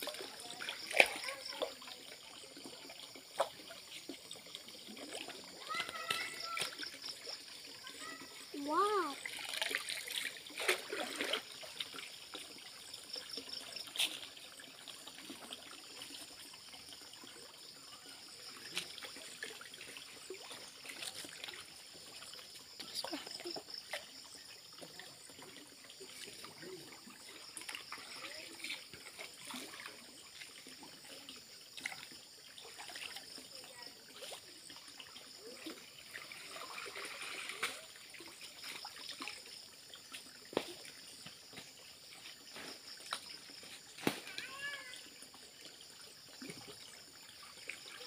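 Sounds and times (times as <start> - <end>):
water splashes: 0.0 - 48.0
water trickling and lapping: 0.0 - 48.0.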